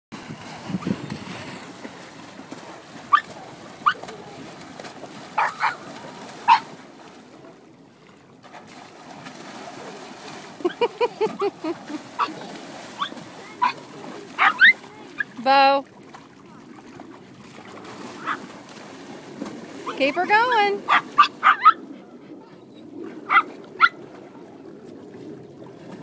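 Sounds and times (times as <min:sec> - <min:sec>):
pony splashing in water: 0:00.2 - 0:26.0.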